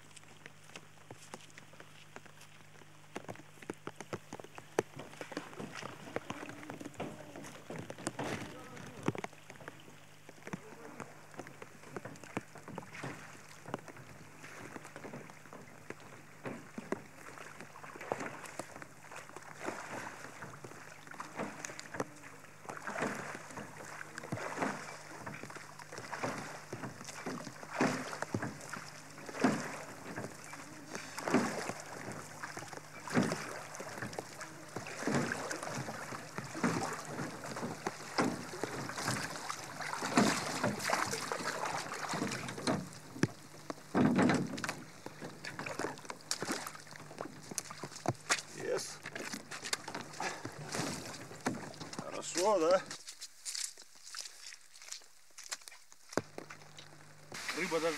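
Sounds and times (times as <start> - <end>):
oars splashing and knocking: 0.0 - 57.9.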